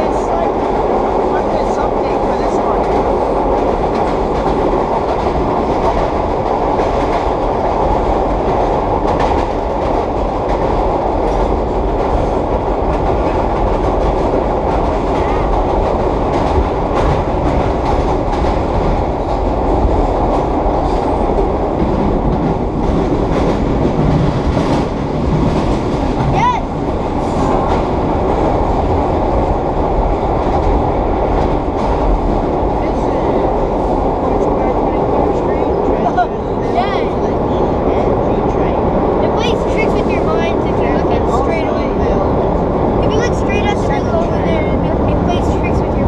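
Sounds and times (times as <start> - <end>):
subway traction gears growling: 0.0 - 46.0
train wheels rumbling: 0.0 - 46.0.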